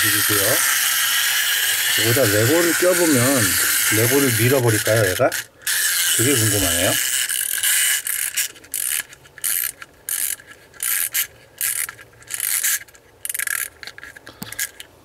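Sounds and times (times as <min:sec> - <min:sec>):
wind-up toy ratcheting buzz: 0:00.0 - 0:14.8.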